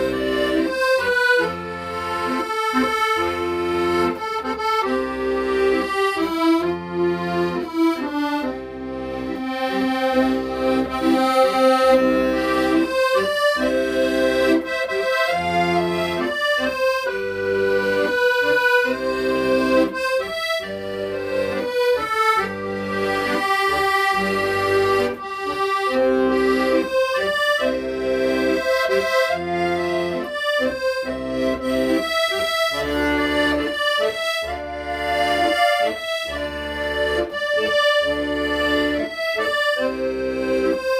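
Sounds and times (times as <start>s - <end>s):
accordion melody: 0.0s - 40.9s.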